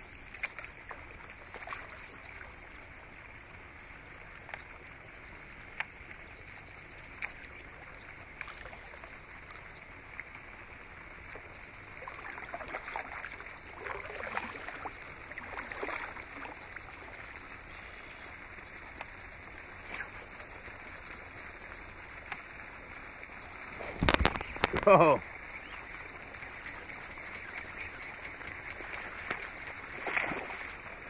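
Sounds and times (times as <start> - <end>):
water lapping around a kayak: 0.0 - 31.0
water splashing: 0.1 - 5.0, 7.0 - 31.0.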